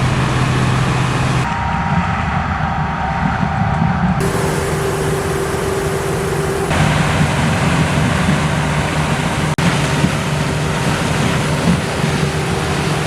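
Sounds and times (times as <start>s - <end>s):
diesel machinery engine drone: 0.0s - 13.0s.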